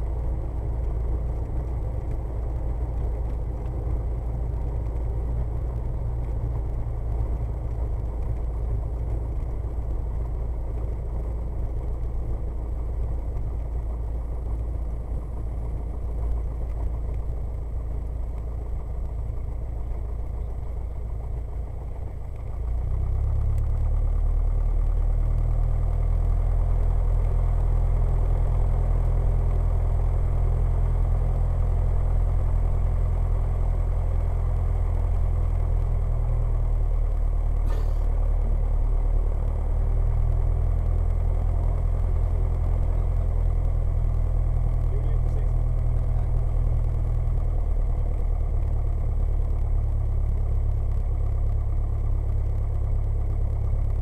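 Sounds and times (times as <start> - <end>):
piston engine and propeller: 0.0 - 54.0.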